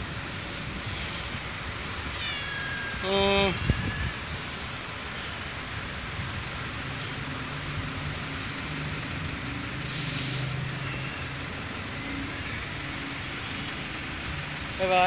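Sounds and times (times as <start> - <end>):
road traffic noise: 0.0 - 15.0
vehicle engine hum: 0.0 - 15.0.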